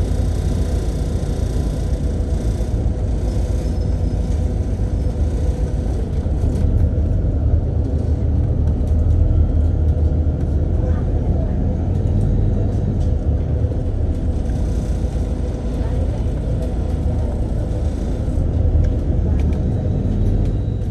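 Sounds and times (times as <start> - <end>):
passenger train rumbling: 0.0 - 20.9.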